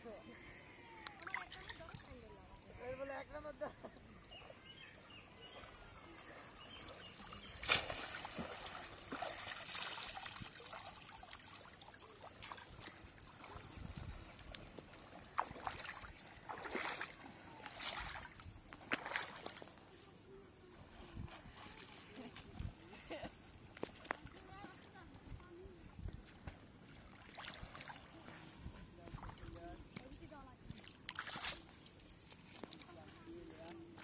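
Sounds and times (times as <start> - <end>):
water trickling and splashing: 0.1 - 34.0
person wading through water: 4.0 - 34.0.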